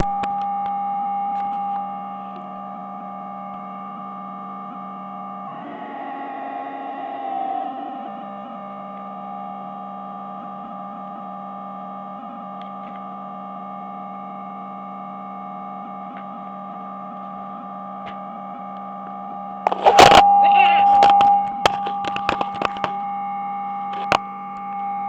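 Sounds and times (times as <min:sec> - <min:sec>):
electronic drone: 0:00.0 - 0:11.3, 0:15.2 - 0:25.0.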